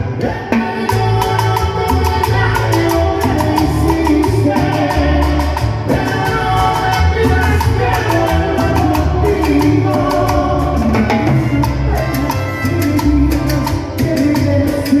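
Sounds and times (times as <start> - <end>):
live latin dance band: 0.0 - 15.0.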